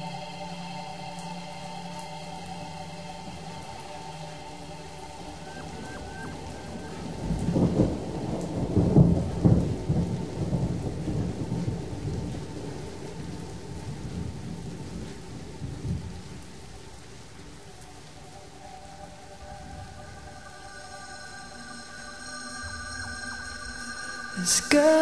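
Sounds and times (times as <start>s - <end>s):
rain pattering: 0.0s - 25.0s
thunder rumbling: 2.6s - 25.0s.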